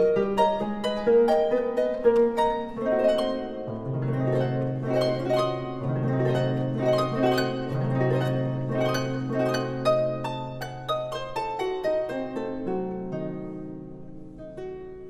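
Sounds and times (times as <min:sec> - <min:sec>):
harp plucked notes: 0:00.0 - 0:15.0.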